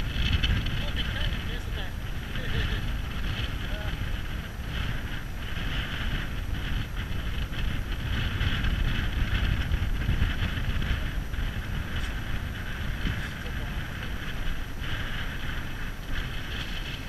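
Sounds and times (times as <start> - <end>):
choppy water around boat: 0.0 - 17.0
wind buffeting microphone: 0.0 - 17.0.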